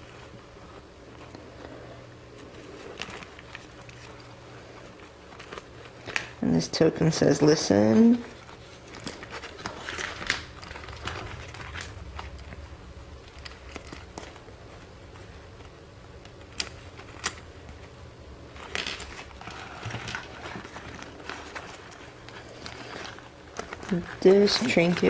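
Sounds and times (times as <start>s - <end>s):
paper rustling: 0.0s - 17.9s, 18.5s - 25.0s.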